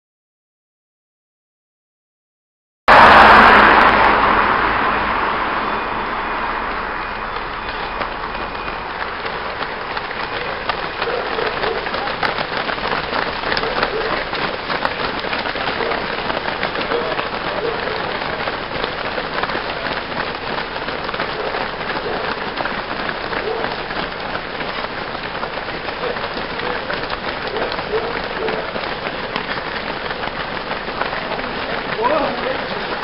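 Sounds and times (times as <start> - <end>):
runners' footsteps on wet tarmac: 2.9 - 33.0.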